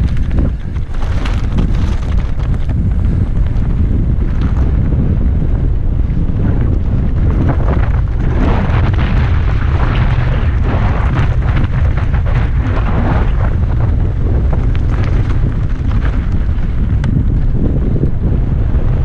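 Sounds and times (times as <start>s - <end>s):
bike tyres crunching on gravel: 0.0s - 19.0s
wind buffeting microphone: 0.0s - 19.0s.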